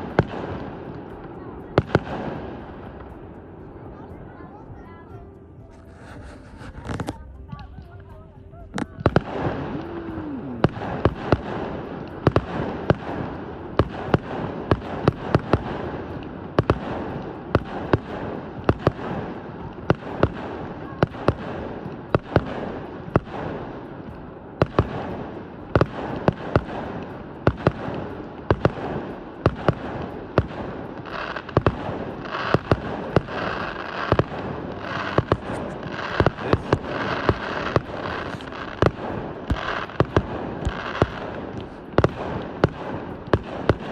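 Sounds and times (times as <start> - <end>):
fireworks banging: 0.0 - 43.9
fireworks crackling: 0.0 - 43.9.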